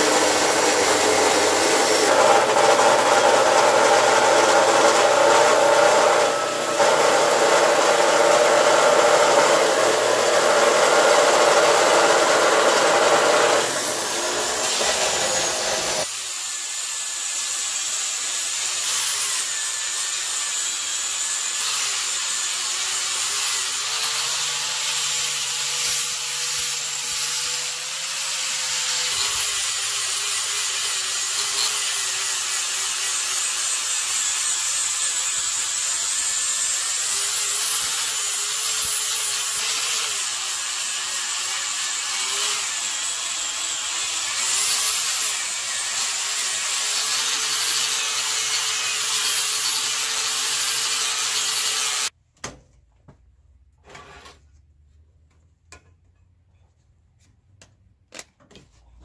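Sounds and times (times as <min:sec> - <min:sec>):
angle grinder grinding steel: 0:00.0 - 0:52.1
chop saw cutting steel: 0:00.0 - 0:52.2.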